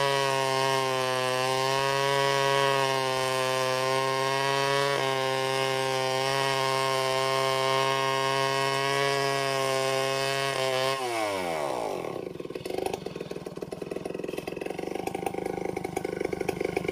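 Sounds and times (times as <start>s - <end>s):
chainsaw cutting through log: 0.0s - 16.9s.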